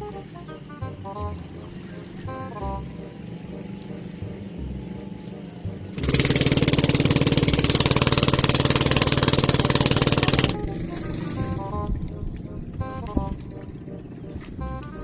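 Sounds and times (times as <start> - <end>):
boat engine puttering: 0.0 - 15.0.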